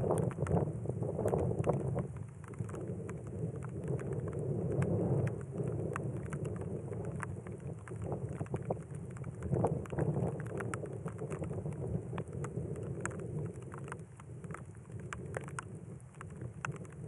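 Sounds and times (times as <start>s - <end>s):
raindrops ticking: 0.0s - 17.0s
wind rumble on microphone: 0.0s - 17.0s.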